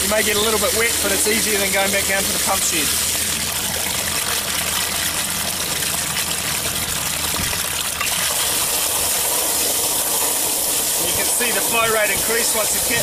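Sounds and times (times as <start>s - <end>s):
water gushing into trough: 0.0s - 13.0s.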